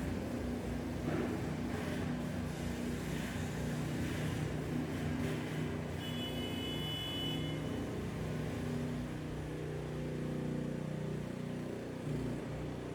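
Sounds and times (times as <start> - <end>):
skid steer engine running: 0.0 - 12.9.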